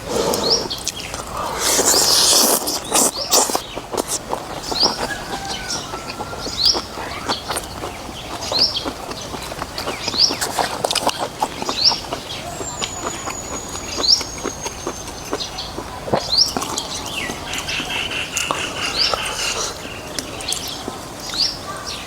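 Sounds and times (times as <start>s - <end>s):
bird chirping: 0.3s - 22.0s
eating noodles clicks and smacks: 0.4s - 17.7s, 20.1s - 21.4s.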